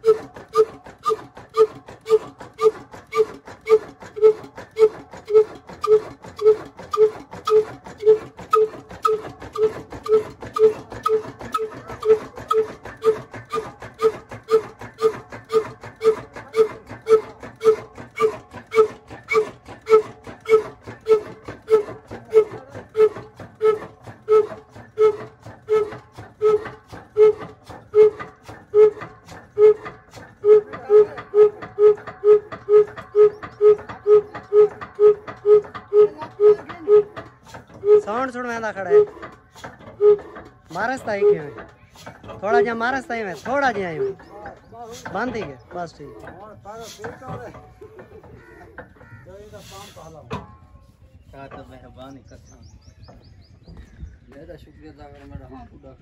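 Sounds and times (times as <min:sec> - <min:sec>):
oil engine exhaust puffing: 0:00.0 - 0:53.6.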